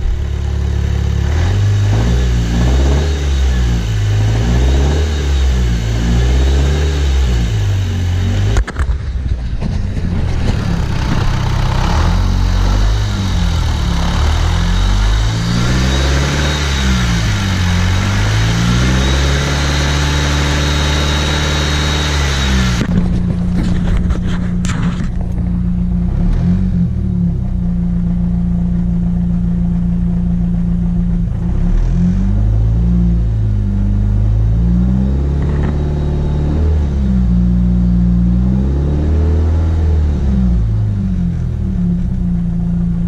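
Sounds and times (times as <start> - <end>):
car engine revving and idling: 0.0 - 43.0.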